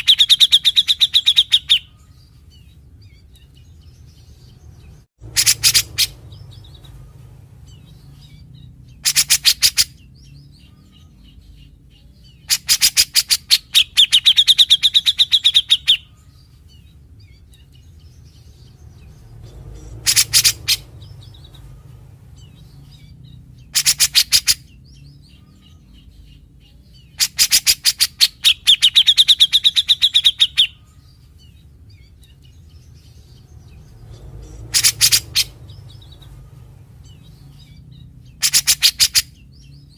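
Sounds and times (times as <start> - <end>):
bird rasping rattling song: 0.0 - 39.9.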